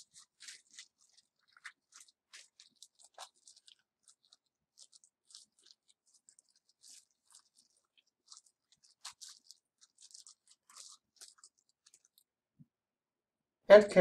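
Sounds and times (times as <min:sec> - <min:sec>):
plastic bags crinkling: 0:00.0 - 0:12.3.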